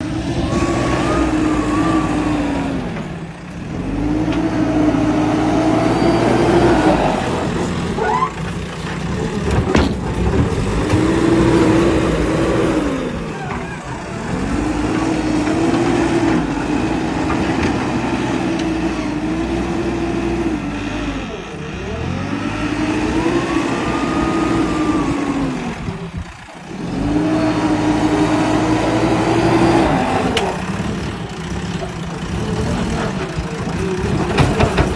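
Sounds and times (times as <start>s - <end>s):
heavy diesel engine under load: 0.0s - 34.9s.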